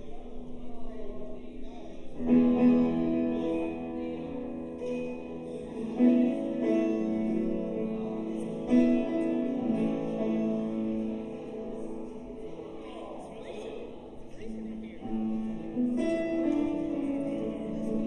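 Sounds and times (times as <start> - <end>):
piano sustained chords: 0.0 - 18.0.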